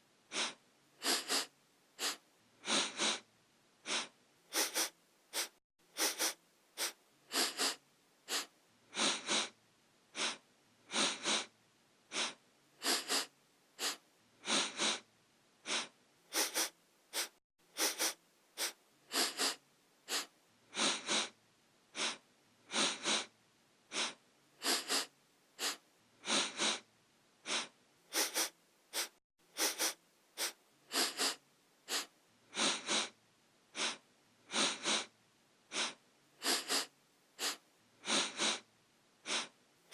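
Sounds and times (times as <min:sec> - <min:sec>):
person sniffing: 0:00.3 - 0:11.5, 0:12.1 - 0:23.3, 0:23.9 - 0:35.1, 0:35.7 - 0:39.9.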